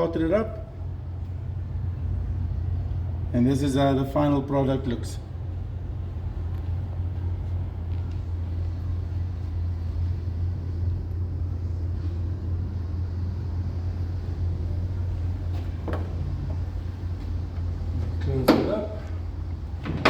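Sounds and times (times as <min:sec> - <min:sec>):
low rumbling hum: 0:00.0 - 0:20.0.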